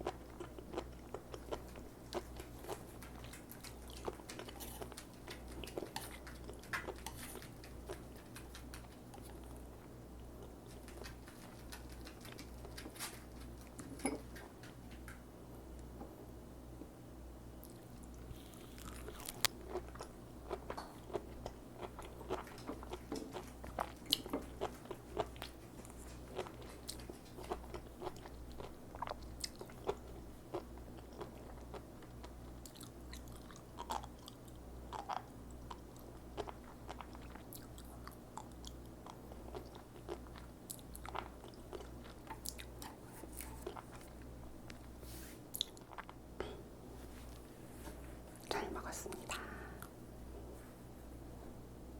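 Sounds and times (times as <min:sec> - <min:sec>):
chewing crisp seaweed: 0:00.0 - 0:15.2, 0:17.6 - 0:46.2
steady low hum: 0:00.0 - 0:51.9.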